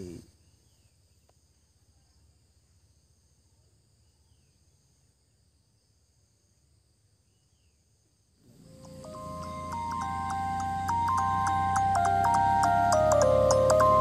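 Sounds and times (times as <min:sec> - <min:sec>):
insect chirring: 0:00.0 - 0:14.0.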